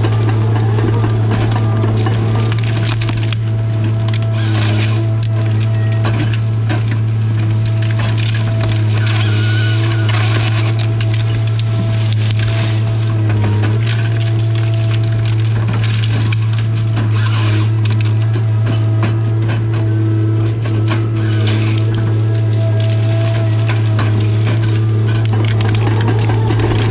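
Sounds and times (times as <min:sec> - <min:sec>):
branches cracking and snapping: 0:00.0 - 0:26.9
harvester engine droning: 0:00.0 - 0:26.9.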